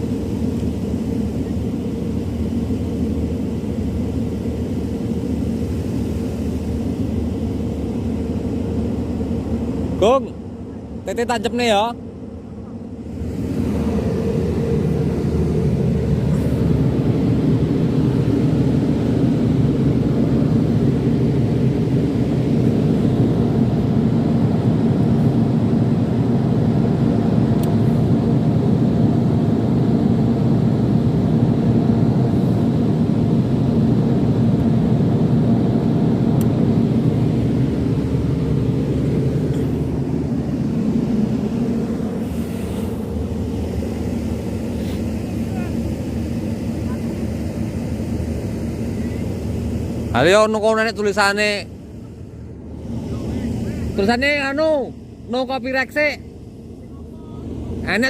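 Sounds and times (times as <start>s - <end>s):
speaker low hum: 0.0s - 58.0s.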